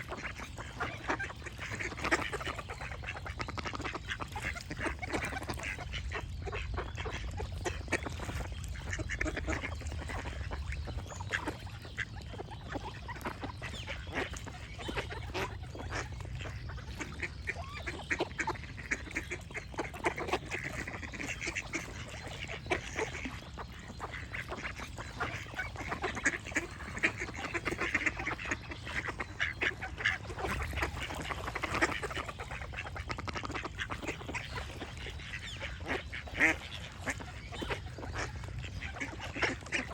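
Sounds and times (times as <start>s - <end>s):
ducks quacking: 0.0s - 39.9s
birds chirping: 0.1s - 39.9s.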